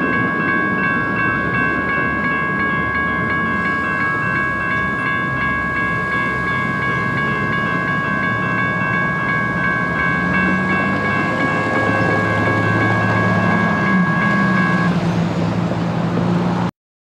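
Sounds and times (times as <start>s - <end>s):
low rumble of a train: 0.0s - 16.7s
railroad crossing bell ringing: 0.0s - 16.7s.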